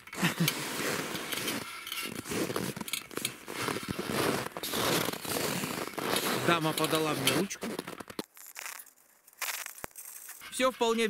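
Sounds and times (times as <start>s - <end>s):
clothing rustling and scraping: 0.0s - 10.6s
short crackles: 0.1s - 10.4s.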